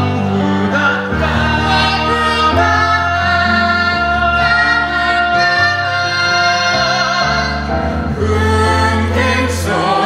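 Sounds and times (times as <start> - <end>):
instrumental accompaniment: 0.0 - 10.0.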